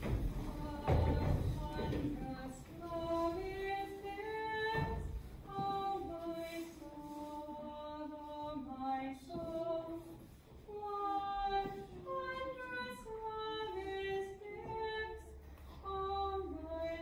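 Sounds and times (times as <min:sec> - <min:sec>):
woman singing a slow hymn: 0:00.0 - 0:17.0.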